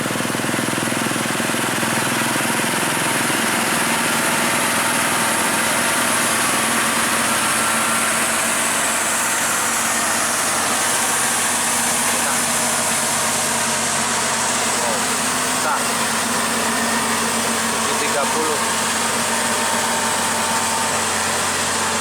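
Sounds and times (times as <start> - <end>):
heavy diesel engine climbing: 0.0 - 22.0.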